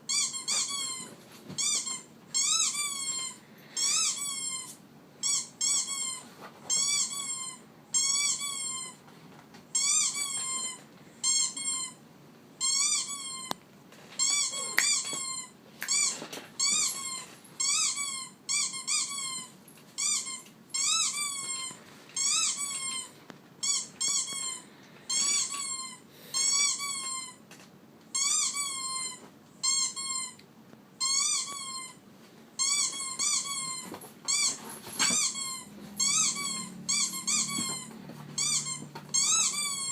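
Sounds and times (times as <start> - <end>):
dog squeaking: 0.1 - 9.0, 9.7 - 12.0, 12.6 - 13.5, 14.2 - 27.4, 28.1 - 30.4, 31.0 - 32.0, 32.6 - 39.9.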